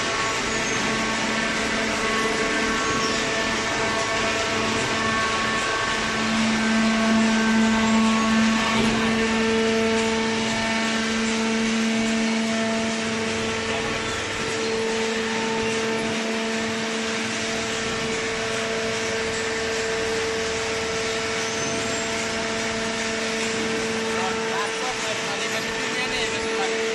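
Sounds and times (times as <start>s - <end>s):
baler machine humming: 0.0s - 26.9s.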